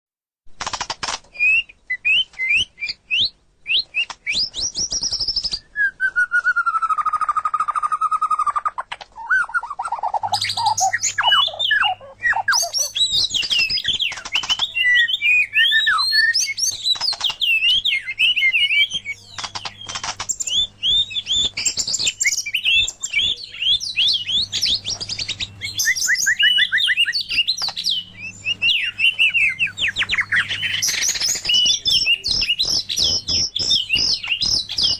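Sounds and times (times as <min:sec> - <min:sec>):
songbirds singing: 0:00.8 - 0:34.9
faint steady hum: 0:05.2 - 0:34.9.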